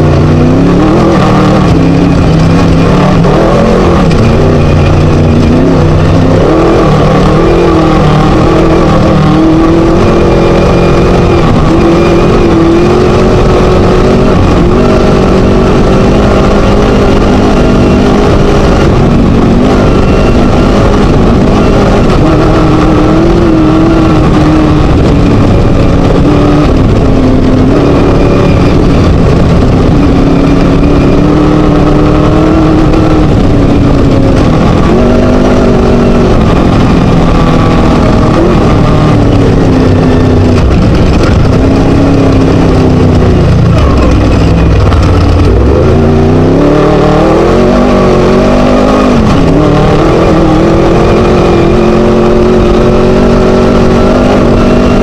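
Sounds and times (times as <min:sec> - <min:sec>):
race buggy engine revving loudly: 0:00.0 - 0:55.0.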